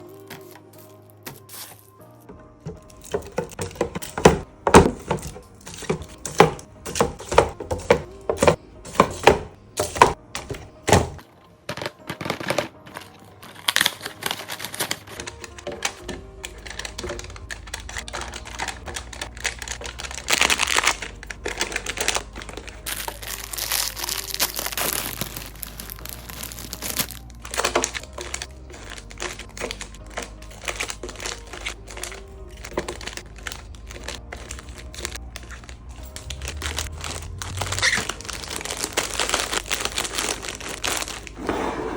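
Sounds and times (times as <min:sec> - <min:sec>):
wrappers crinkling: 0:00.0 - 0:04.2, 0:11.6 - 0:41.4.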